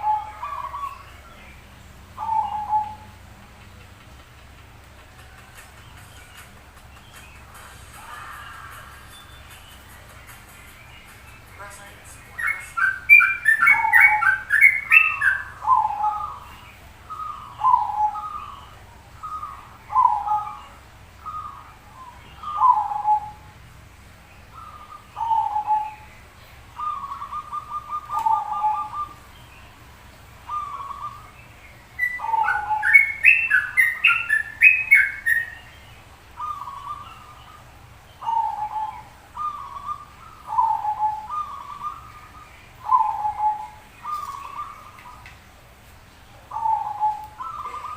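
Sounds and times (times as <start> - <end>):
doves cooing: 0.0 - 23.6, 24.4 - 45.6, 46.4 - 47.9.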